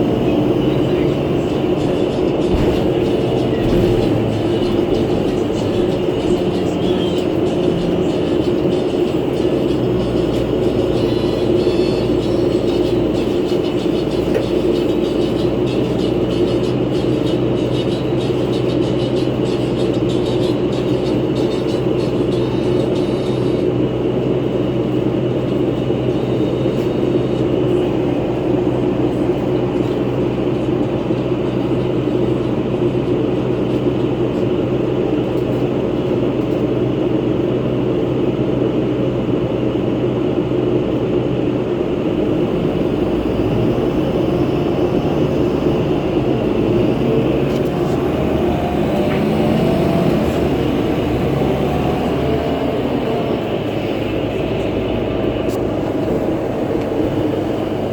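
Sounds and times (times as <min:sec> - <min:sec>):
bus engine and fan hum: 0:00.0 - 0:57.9.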